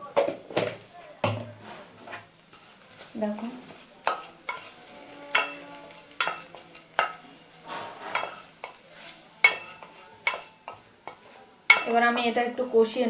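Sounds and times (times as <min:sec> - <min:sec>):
light frying sizzle: 0:00.0 - 0:13.0
spatula scraping a pan: 0:01.5 - 0:12.8.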